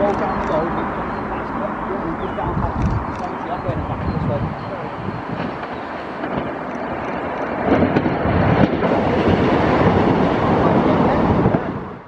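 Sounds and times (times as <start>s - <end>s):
train engine and wheels rumbling: 0.0s - 12.0s.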